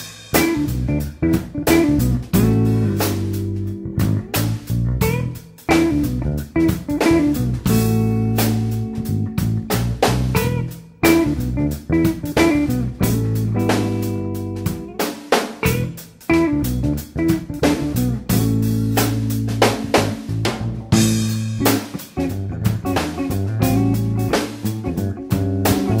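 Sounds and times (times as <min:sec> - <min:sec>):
guitar-led band music: 0:00.0 - 0:26.0.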